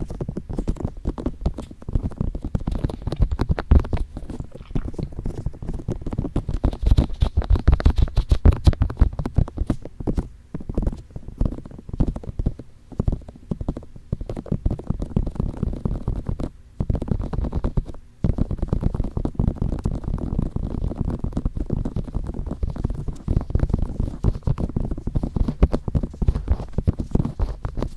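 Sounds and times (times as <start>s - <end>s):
fingertips tapping on microphone: 0.0s - 27.9s.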